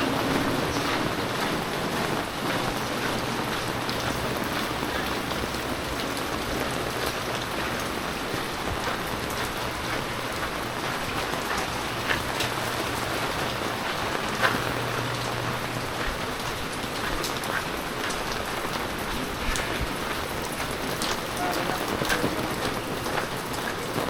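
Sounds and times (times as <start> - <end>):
heavy rain splashing: 0.0 - 24.0.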